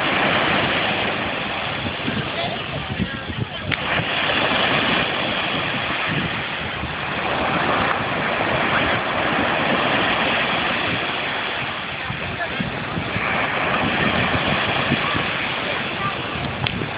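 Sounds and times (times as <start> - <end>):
ocean surf breaking on beach: 0.0 - 16.9.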